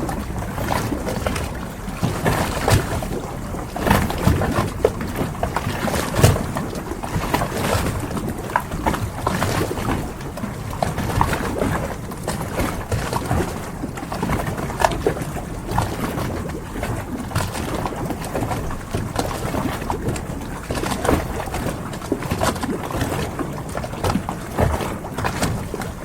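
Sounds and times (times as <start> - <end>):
water sloshing around boats: 0.0 - 26.0.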